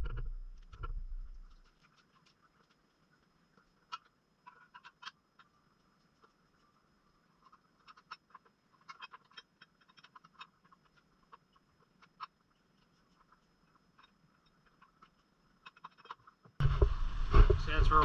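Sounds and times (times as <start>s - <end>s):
faint crackling and ticking: 0.0s - 18.0s.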